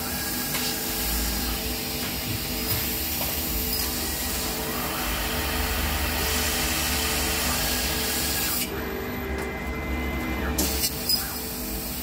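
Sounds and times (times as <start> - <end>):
low machine hum: 0.0 - 12.0
thin steady whine: 0.0 - 12.0.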